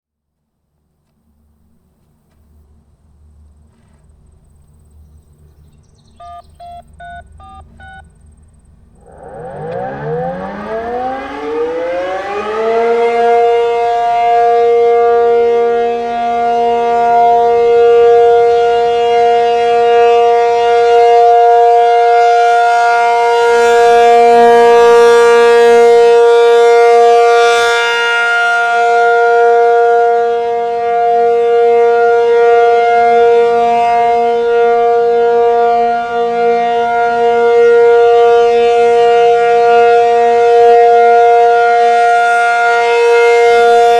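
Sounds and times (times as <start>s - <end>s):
warning siren two-tone wail: 6.0s - 43.9s.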